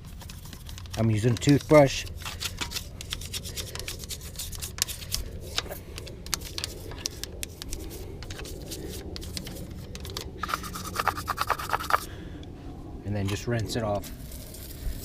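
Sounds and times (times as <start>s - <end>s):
toothbrush scrubbing a wheel: 0.0s - 12.1s.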